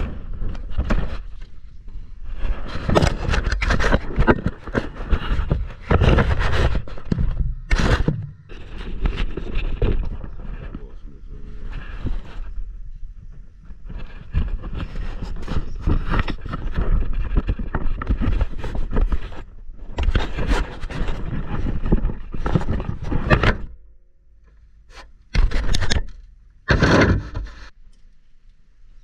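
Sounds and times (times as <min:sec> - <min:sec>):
rustling and scraping in attic: 0:00.0 - 0:28.4.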